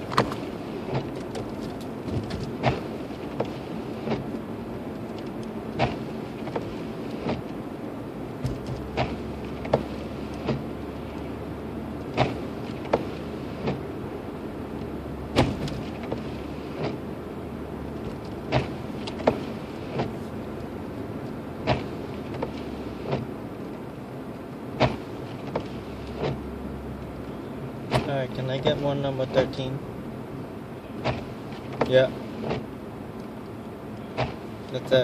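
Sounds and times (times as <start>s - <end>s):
tyres and engine rumble: 0.0s - 35.0s.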